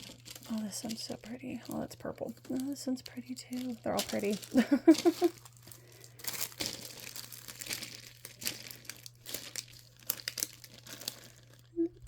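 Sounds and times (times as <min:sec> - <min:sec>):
crinkly wrapping rustling: 0:00.0 - 0:12.0.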